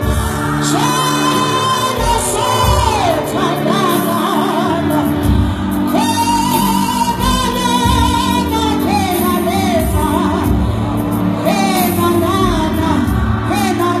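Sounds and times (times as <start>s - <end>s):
gospel choir singing: 0.0s - 14.0s
instrumental backing with steady beat: 0.0s - 14.0s.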